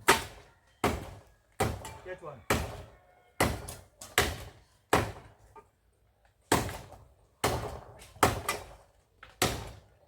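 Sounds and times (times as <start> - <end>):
machete chopping wood: 0.0 - 5.3, 6.5 - 9.9.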